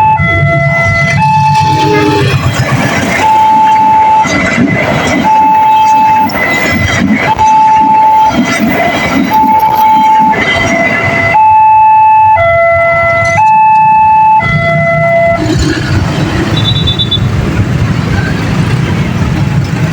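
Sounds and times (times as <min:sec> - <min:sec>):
train rumbling: 0:00.0 - 0:11.4, 0:12.6 - 0:19.9
level crossing warning siren: 0:00.0 - 0:19.7.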